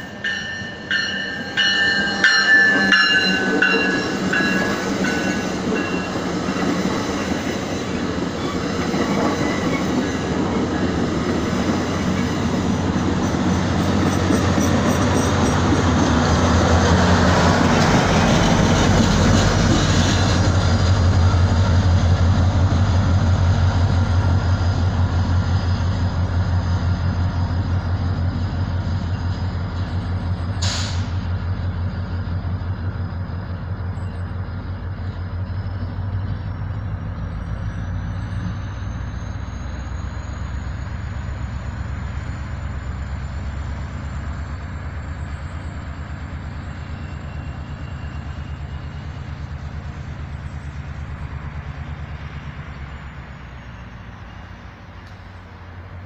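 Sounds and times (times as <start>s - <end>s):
diesel locomotive rumble: 0.0s - 56.0s.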